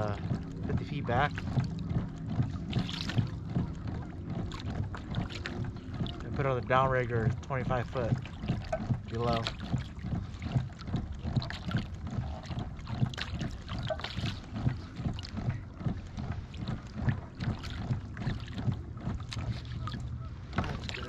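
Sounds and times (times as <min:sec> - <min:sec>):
boat motor hum: 0:00.0 - 0:21.0.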